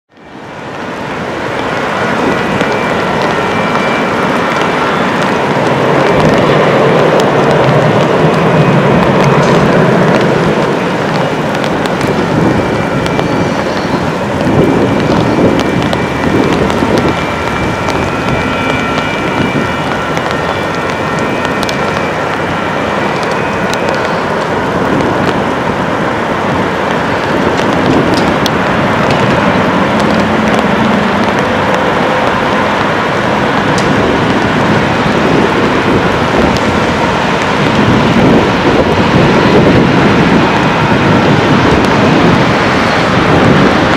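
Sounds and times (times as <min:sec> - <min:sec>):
diesel locomotives rumbling: 0:00.1 - 0:43.9.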